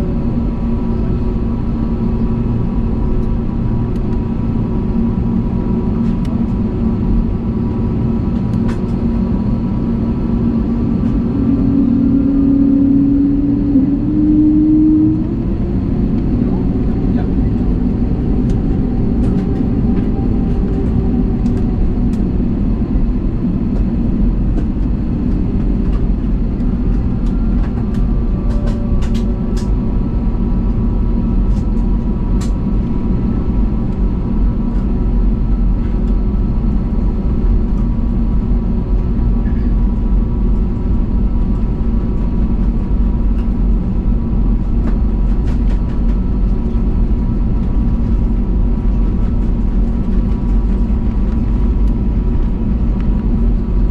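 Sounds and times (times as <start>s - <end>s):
airplane cabin engine noise: 0.0s - 53.9s.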